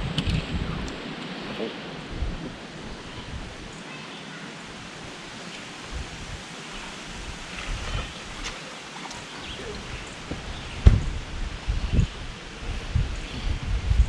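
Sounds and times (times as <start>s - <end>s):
wind buffeting microphone: 0.0s - 3.8s, 4.6s - 14.0s.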